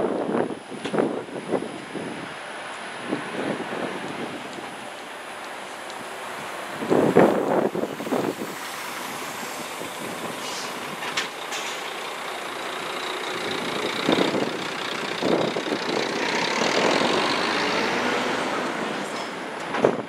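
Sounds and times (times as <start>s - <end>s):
wind on microphone: 0.0s - 2.4s, 3.0s - 4.9s, 6.0s - 11.3s, 13.3s - 20.0s
distant motor traffic: 0.0s - 20.0s.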